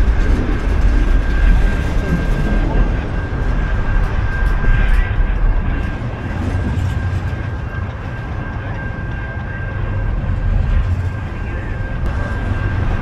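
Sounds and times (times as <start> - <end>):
train rumbling by: 0.0 - 13.0
high-pitched steady tone: 1.1 - 13.0.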